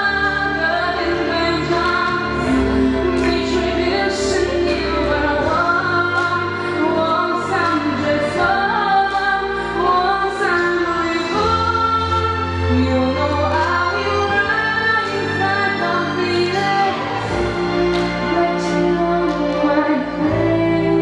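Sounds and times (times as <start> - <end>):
instrumental accompaniment: 0.0 - 21.0
woman singing into microphone: 0.0 - 21.0.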